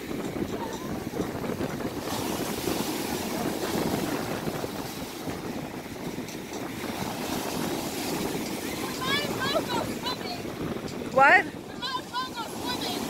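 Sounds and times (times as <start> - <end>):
waves breaking in shallows: 0.0 - 13.0
wind rumbling on microphone: 0.0 - 13.0.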